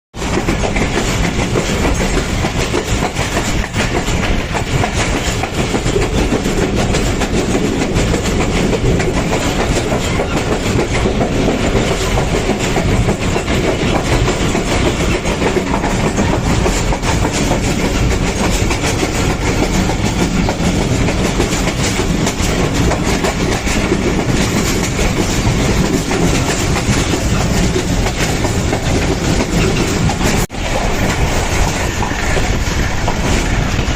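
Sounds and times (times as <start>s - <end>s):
rumble of train carriages: 0.1s - 33.9s
train wheels clacking over rails: 0.1s - 33.9s.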